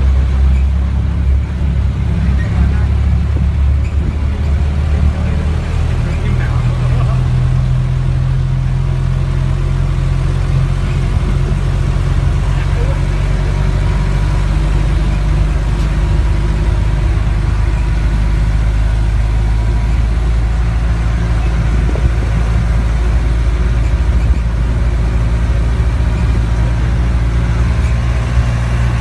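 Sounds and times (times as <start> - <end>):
tram engine droning: 0.0 - 29.0.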